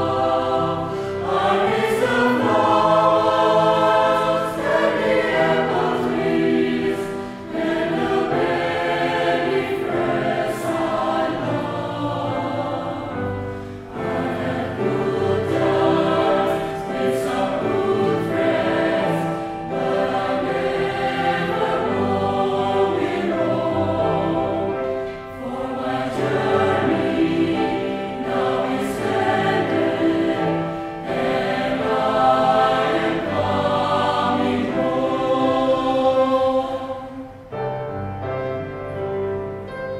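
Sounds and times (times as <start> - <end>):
mixed choir singing: 0.0 - 38.8
grand piano: 0.0 - 39.9.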